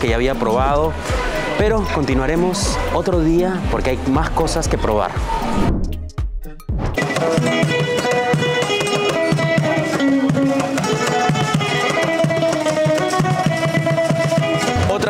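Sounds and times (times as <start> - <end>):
hand drum beat: 0.0 - 15.0
plucked string melody: 0.0 - 15.0.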